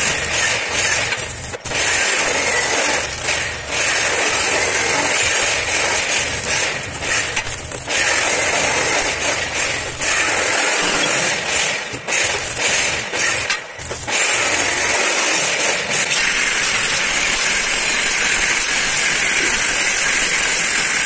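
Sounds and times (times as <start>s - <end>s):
welding arc crackling and hissing: 0.0s - 21.0s.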